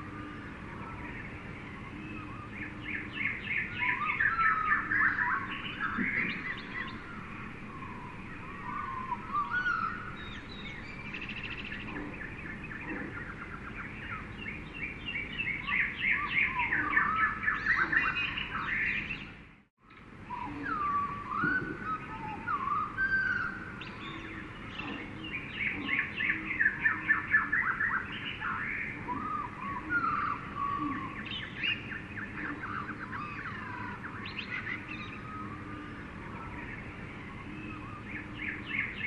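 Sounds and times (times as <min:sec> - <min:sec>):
birds chirping and trilling: 0:00.0 - 0:39.0
jungle background hiss: 0:00.0 - 0:39.0.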